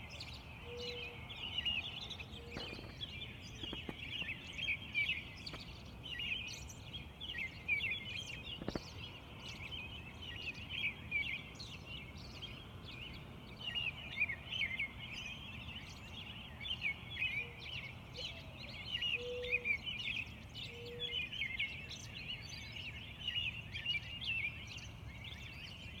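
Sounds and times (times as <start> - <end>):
birds chirping and singing: 0.0 - 26.0.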